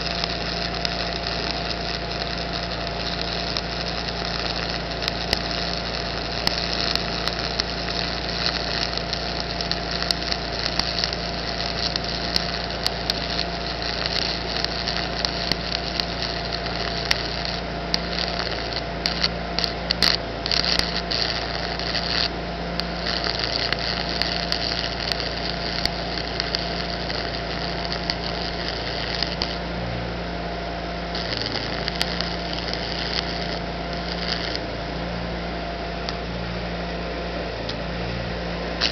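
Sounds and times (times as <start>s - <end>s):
welding arc crackling hiss: 0.0s - 36.3s
steady hum: 0.0s - 38.9s.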